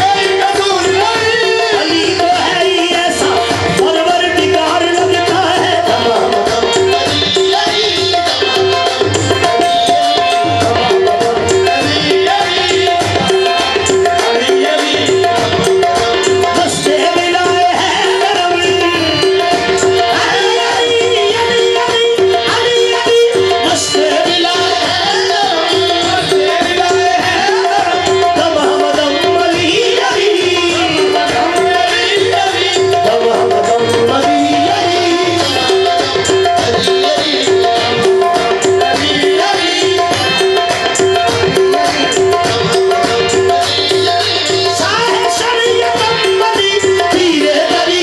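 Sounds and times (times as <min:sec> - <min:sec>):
harmonium melody: 0:00.0 - 0:48.0
tabla drumming: 0:00.0 - 0:48.0.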